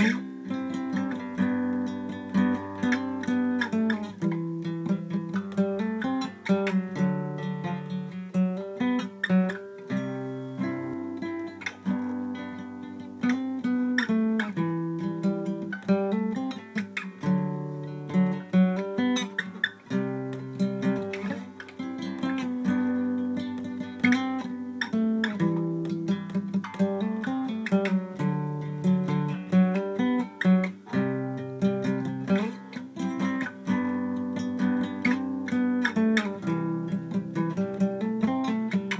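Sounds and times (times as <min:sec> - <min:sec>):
acoustic guitar plucked: 0:00.0 - 0:38.9.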